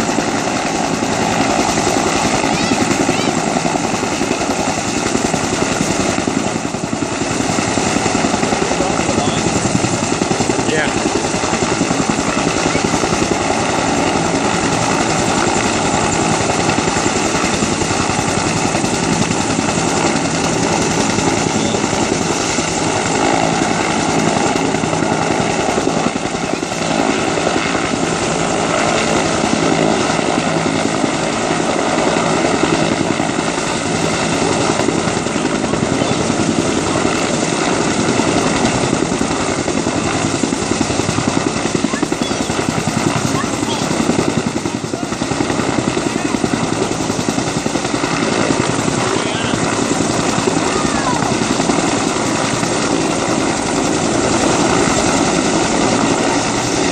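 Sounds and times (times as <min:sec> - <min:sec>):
helicopter hovering: 0:00.0 - 0:56.9.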